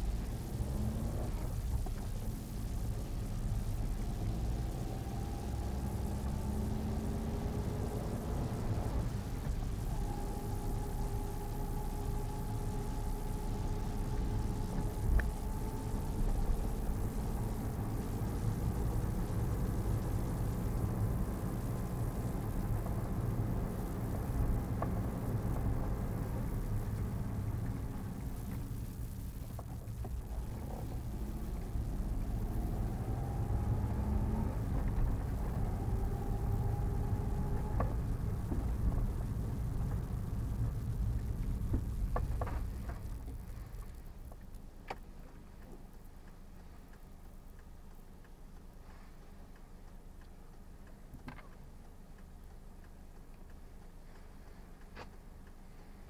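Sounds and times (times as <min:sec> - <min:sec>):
car engine and road rumble: 0:00.0 - 0:56.0
faint engine hum: 0:00.0 - 0:56.0
faint ticks: 0:09.5 - 0:56.0.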